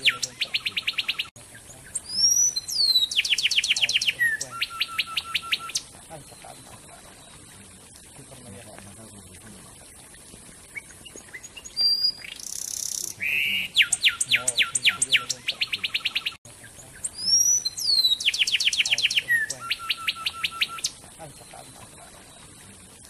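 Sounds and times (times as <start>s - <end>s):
wren singing: 0.0s - 8.7s, 10.7s - 23.0s.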